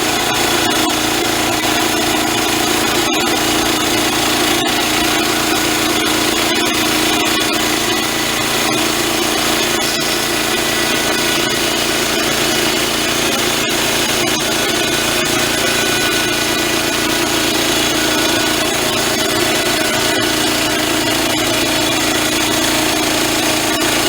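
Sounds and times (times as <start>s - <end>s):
band saw cutting log: 0.0s - 24.0s.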